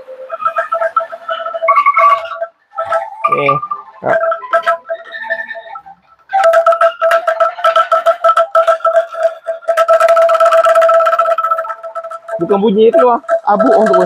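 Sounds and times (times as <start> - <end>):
bamboo angklung rattling: 0.0 - 14.0.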